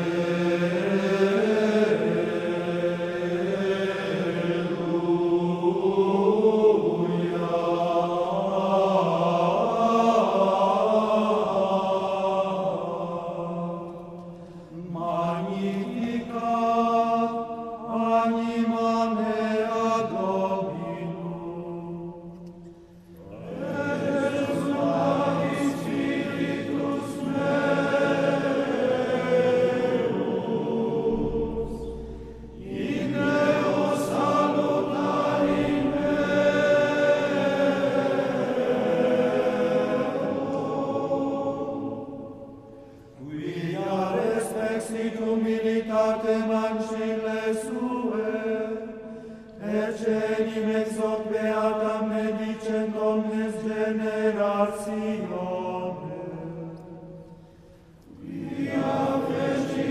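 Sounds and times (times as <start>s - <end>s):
plainchant singing: 0.0s - 59.9s.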